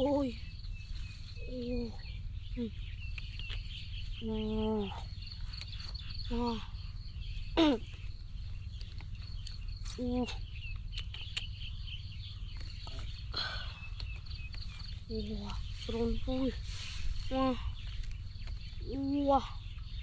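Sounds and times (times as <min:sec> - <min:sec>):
insects chirring: 0:00.0 - 0:20.0
low rumble: 0:00.0 - 0:20.0.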